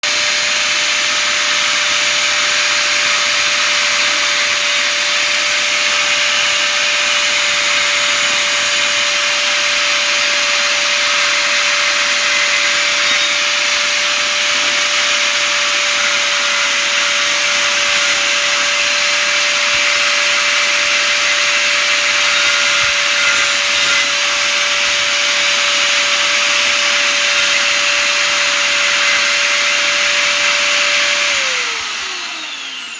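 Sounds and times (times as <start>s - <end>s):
angle grinder whining: 0.0s - 32.9s.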